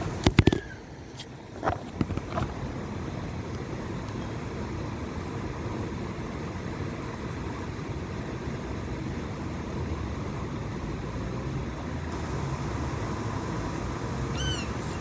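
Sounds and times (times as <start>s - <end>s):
low rumbling background noise: 0.0s - 15.0s
faint hiss: 2.4s - 15.0s.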